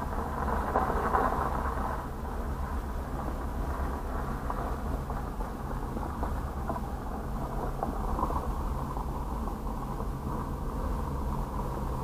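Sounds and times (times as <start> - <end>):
faint hum: 0.0 - 12.0
muffled low rumble and hiss: 0.0 - 12.0.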